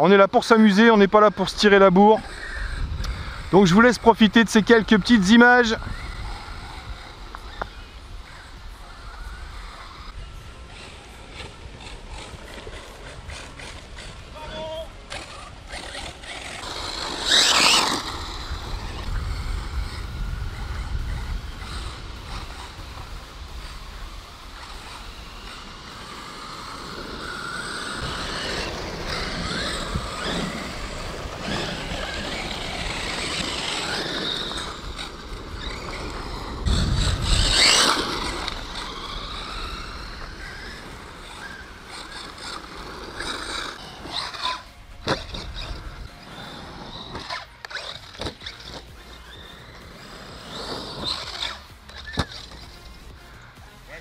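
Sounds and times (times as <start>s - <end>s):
rc car motors whining: 0.0s - 54.0s
tyres rushing on dirt: 0.0s - 54.0s.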